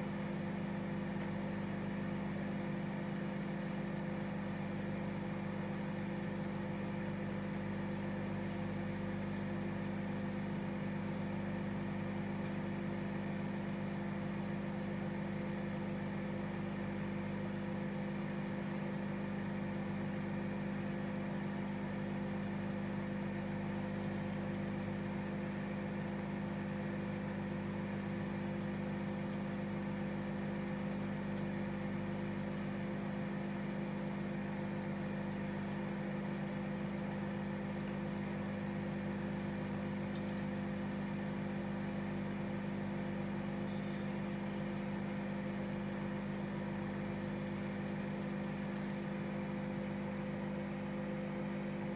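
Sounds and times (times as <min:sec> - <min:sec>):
microwave oven hum: 0:00.0 - 0:51.9.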